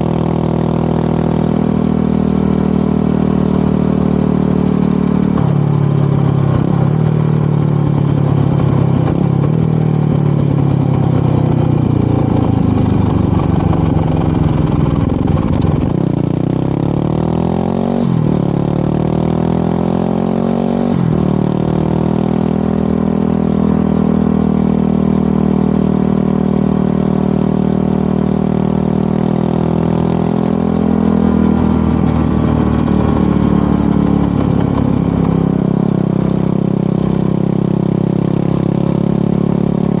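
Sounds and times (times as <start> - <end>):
motorcycle engine riding: 0.0 - 40.0.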